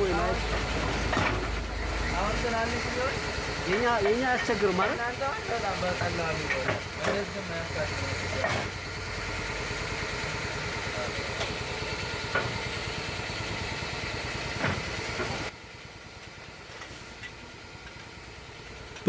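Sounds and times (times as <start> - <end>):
machine engine running: 0.0 - 19.0.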